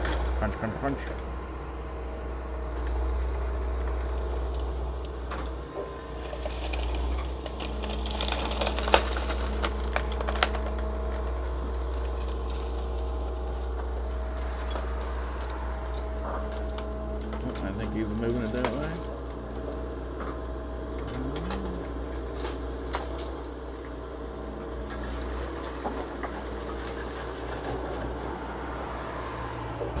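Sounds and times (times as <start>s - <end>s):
excavator engine running: 0.0s - 30.0s
wood and rubble cracking and clattering: 2.7s - 29.1s.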